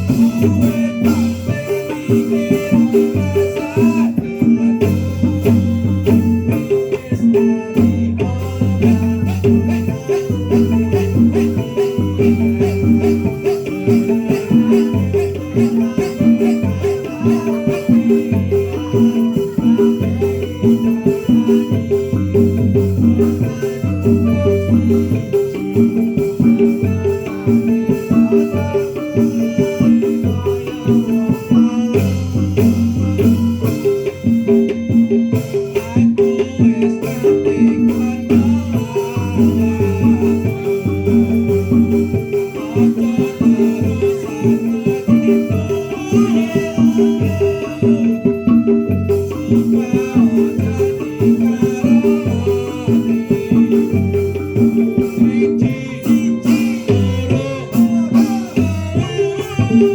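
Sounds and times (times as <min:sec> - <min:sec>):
percussion-led ensemble music: 0:00.0 - 0:59.9.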